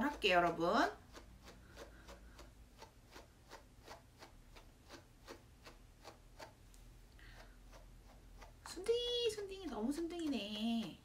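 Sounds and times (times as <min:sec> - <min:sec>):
brush strokes through curly coat: 0:00.0 - 0:11.0.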